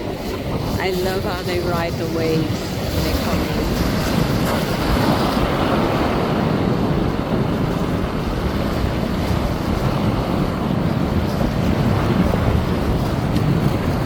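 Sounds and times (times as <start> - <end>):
ocean surf on rocks: 0.0 - 14.0
wind on microphone: 0.0 - 14.0.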